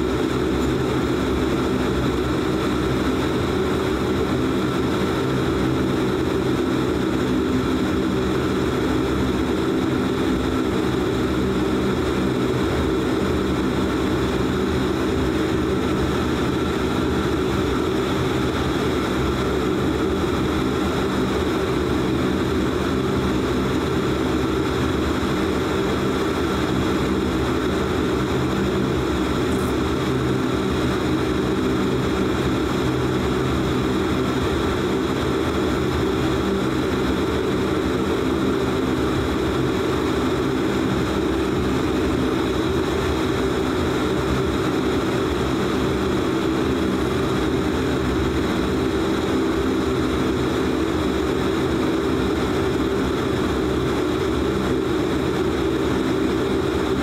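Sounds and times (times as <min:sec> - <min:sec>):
turboprop engines droning in cabin: 0:00.0 - 0:57.0.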